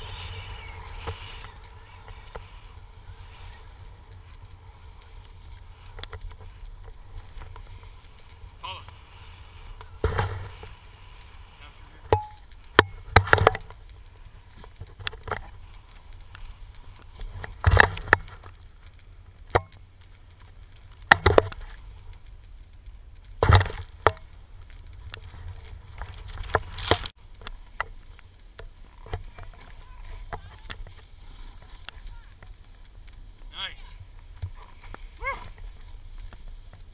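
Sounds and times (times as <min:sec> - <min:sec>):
low wind rumble: 0:00.0 - 0:36.9
skis knocking: 0:00.0 - 0:36.9
skis swishing on snow: 0:00.0 - 0:36.9.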